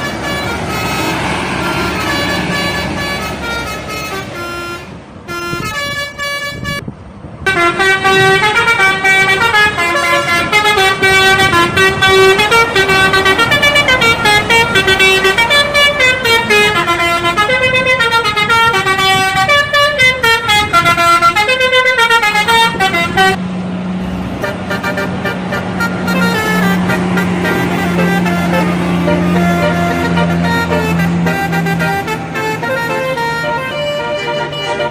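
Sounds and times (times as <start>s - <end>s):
tuned air horns playing melody: 0.0s - 6.8s, 7.5s - 23.4s, 24.4s - 34.9s.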